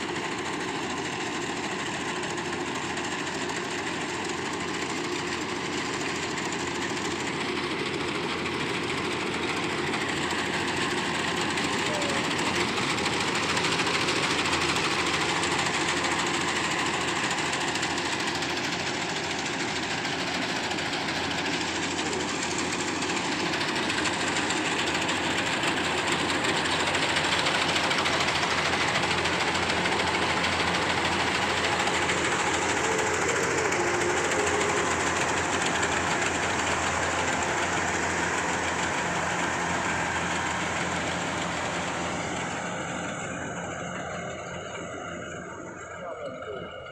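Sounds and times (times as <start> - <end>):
combine harvester machinery din: 0.0 - 46.9.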